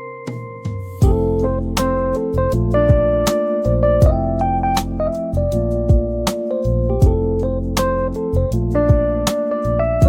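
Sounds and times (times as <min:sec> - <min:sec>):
lofi keyboard chords and drums: 0:00.0 - 0:10.0.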